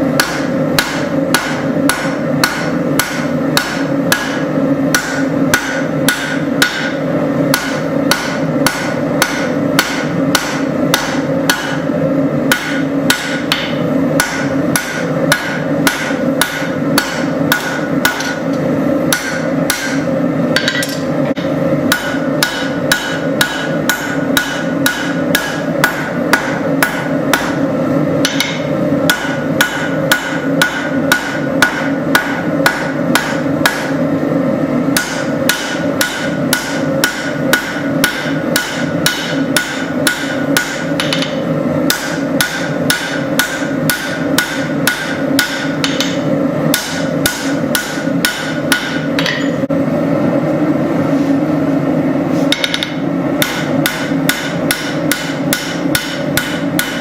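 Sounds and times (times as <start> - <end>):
hammer striking steel on anvil: 0.1 - 34.0, 34.9 - 49.8, 52.5 - 57.0.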